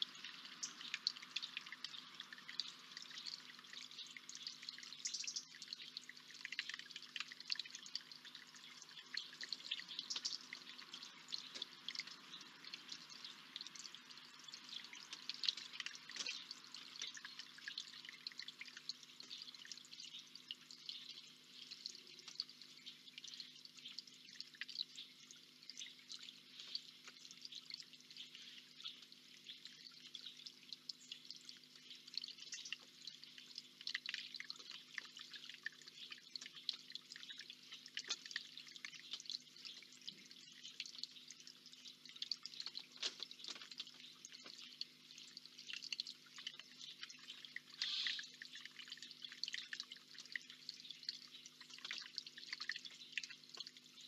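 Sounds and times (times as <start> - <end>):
faint steady hum: 0.0 - 54.0
water trickling and dripping: 0.0 - 54.0.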